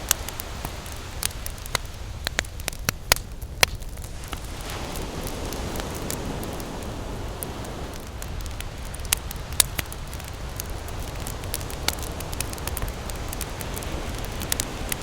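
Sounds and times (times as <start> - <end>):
ocean waves: 0.0 - 3.2, 3.8 - 15.0
campfire crackling: 0.0 - 15.0.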